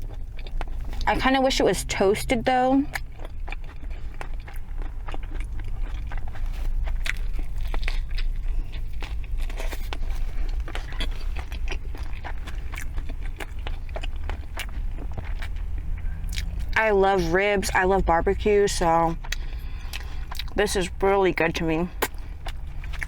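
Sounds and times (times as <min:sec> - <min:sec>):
chewing sandwich: 0:00.0 - 0:17.8, 0:18.8 - 0:21.0, 0:21.9 - 0:23.0
steady low hum: 0:00.0 - 0:23.0.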